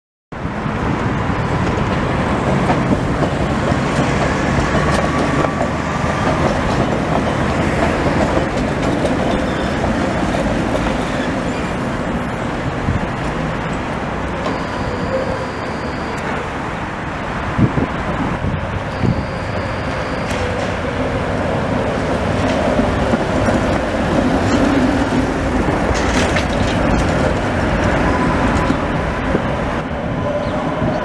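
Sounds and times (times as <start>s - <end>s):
high whine of wheels: 0.4s - 31.0s
tram wheels rumbling on rails: 0.4s - 31.0s
wheels clacking over rail joints: 0.9s - 16.5s, 18.0s - 29.6s.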